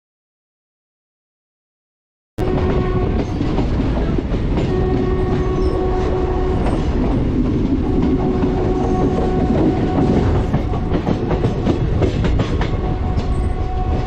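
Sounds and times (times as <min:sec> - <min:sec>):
wheels clattering over rail joints: 0:02.4 - 0:13.8
train rumbling: 0:02.4 - 0:14.0.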